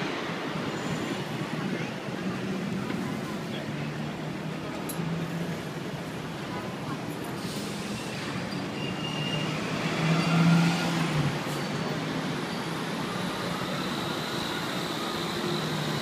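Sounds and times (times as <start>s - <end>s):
tram running rumble: 0.0s - 16.0s.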